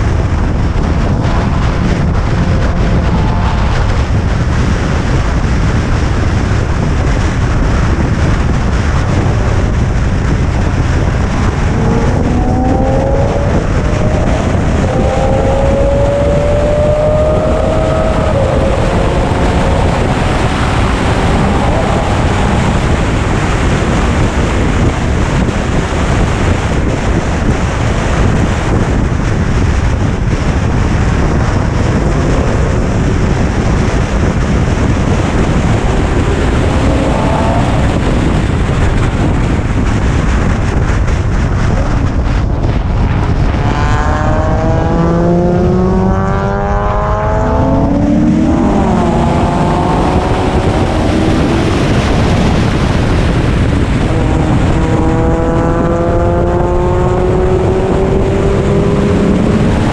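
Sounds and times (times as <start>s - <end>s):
car engine accelerating: 0.0s - 59.9s
road noise: 0.0s - 59.9s
wind buffeting the microphone: 0.0s - 59.9s.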